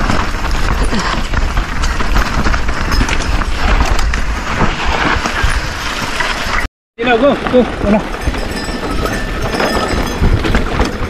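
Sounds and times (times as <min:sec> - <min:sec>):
bike clattering: 0:00.0 - 0:06.6, 0:07.5 - 0:11.0
wind rumbling on microphone: 0:00.0 - 0:11.0.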